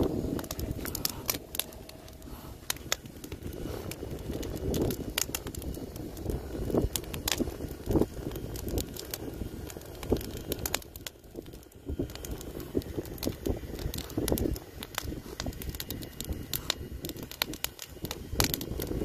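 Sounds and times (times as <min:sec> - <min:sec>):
steady low rumble: 0:00.0 - 0:19.0
wood fire crackling and popping: 0:00.0 - 0:19.0.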